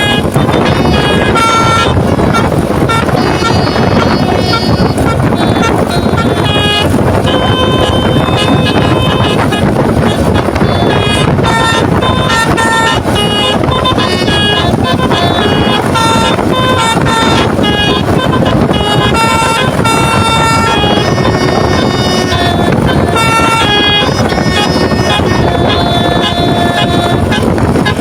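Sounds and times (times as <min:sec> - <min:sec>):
musical air horn tooting melody: 0:00.0 - 0:28.0
wind and road noise: 0:00.0 - 0:28.0.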